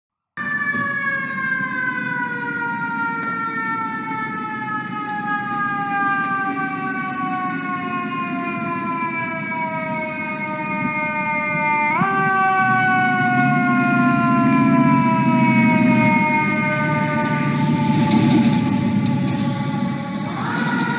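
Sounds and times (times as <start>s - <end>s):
fire truck siren wailing: 0.4s - 20.9s.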